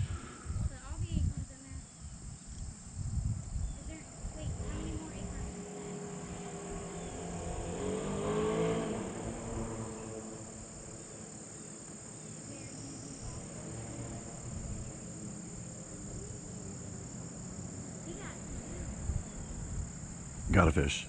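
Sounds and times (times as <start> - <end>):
low wind rumble on microphone: 0.0 - 20.6
high insect drone: 0.0 - 21.0
vehicle engine hum: 0.0 - 21.0.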